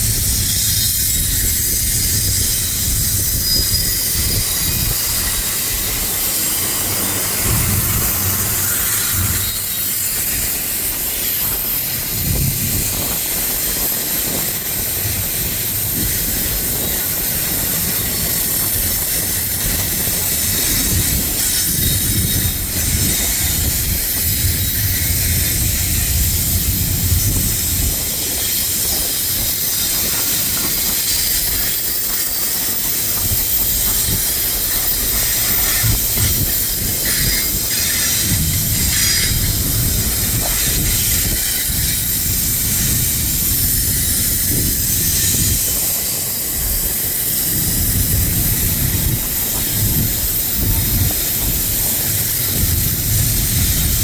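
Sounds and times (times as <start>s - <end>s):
low thumps of train cars: 0.0s - 54.0s
train wheels on rails: 0.0s - 54.0s.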